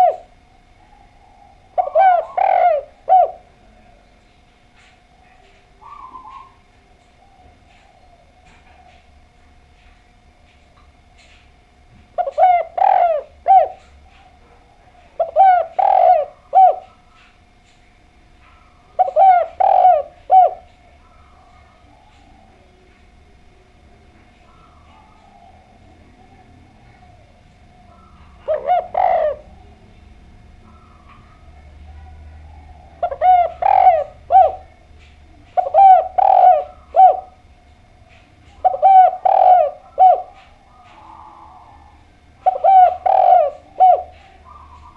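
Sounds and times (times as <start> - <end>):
dove cooing: 0.0 - 44.9
faint steady hum: 0.0 - 44.9.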